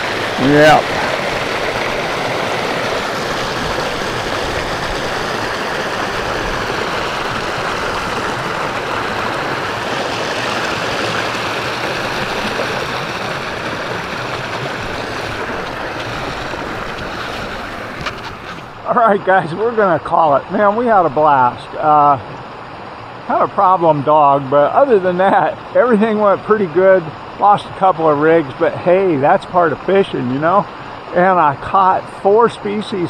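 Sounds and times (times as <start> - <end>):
stream rushing over rocks: 0.0 - 33.0.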